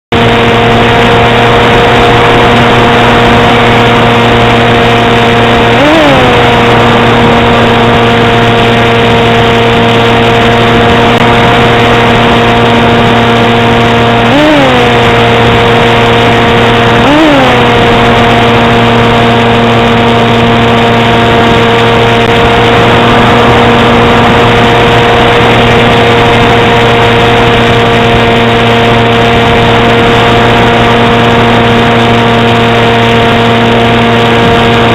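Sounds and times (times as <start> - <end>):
model aircraft motor and propeller: 0.1 - 34.9.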